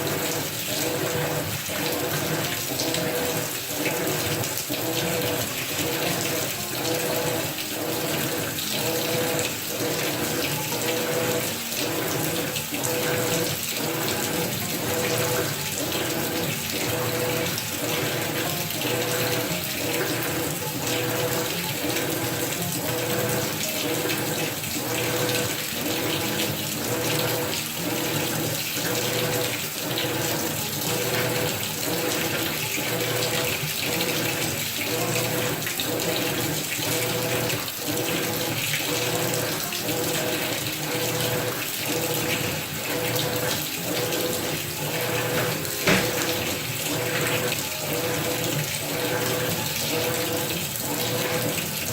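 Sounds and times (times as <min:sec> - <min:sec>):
machine hum: 0:00.0 - 0:51.9
washing machine water sloshing: 0:00.0 - 0:51.9.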